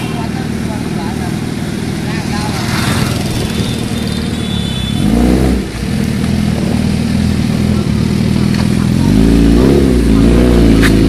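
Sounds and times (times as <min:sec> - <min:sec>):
trike engine revving: 0:00.0 - 0:11.0.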